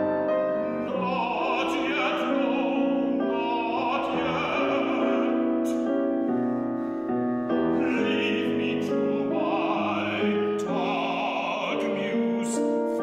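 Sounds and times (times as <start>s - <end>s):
piano accompaniment: 0.0s - 13.0s
male opera singer singing: 0.5s - 6.1s, 7.6s - 13.0s.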